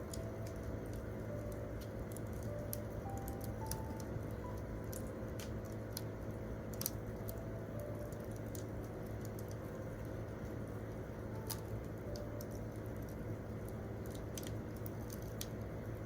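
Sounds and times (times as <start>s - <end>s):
campfire crackling and popping: 0.0s - 16.0s
faint soft piano notes: 0.0s - 16.0s.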